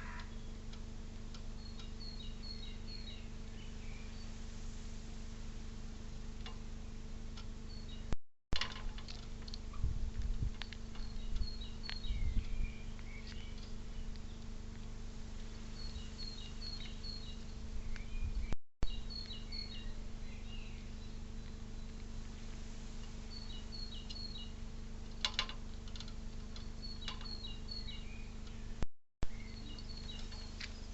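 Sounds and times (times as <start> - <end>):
small birds chirping: 0.0 - 4.4, 6.0 - 8.2, 9.5 - 30.9
low electrical hum: 0.0 - 30.9
low rumbles: 0.0 - 30.9.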